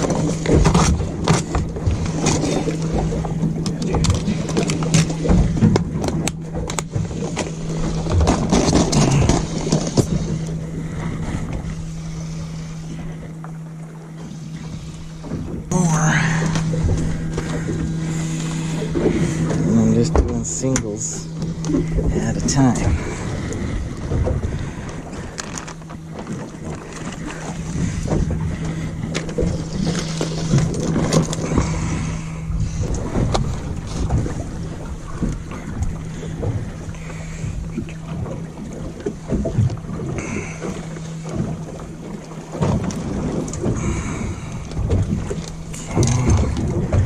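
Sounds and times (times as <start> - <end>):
steady low hum: 0.0 - 47.0
water sloshing against hull: 0.0 - 47.0.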